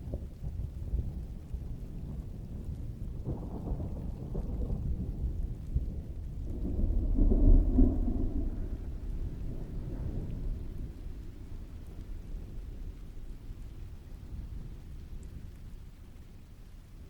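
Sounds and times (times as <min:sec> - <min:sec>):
distant thunder rumbling: 0:00.1 - 0:16.5
heavy rain falling: 0:00.1 - 0:17.0.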